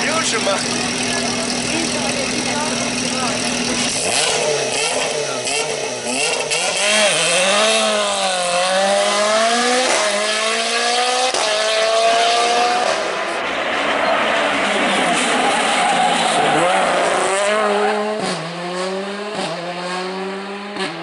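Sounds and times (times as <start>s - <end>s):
race car engine revving: 0.0s - 21.0s
road and tyre noise: 0.0s - 21.0s.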